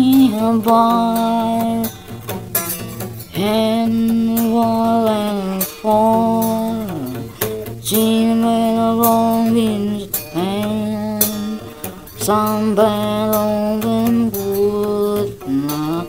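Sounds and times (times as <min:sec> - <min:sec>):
person singing long held notes: 0:00.0 - 0:02.3, 0:03.0 - 0:16.0
music: 0:00.0 - 0:16.0.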